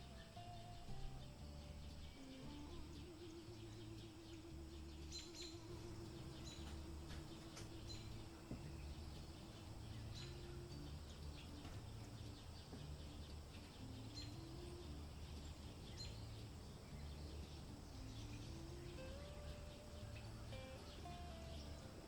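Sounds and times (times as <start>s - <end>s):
bird chirps: 0.0s - 22.0s
soft ambient music: 0.0s - 22.0s.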